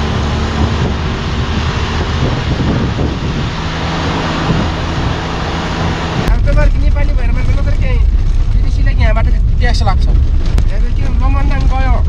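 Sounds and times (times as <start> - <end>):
loud wind: 0.0 - 12.0
road noise: 0.0 - 12.0
vehicle engine running: 0.0 - 12.0.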